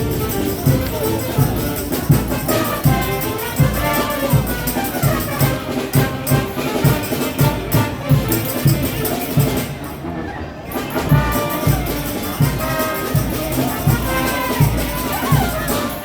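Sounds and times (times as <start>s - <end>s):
quick steady drum beat: 0.0s - 9.6s, 11.1s - 16.0s
brass horns: 0.0s - 16.0s.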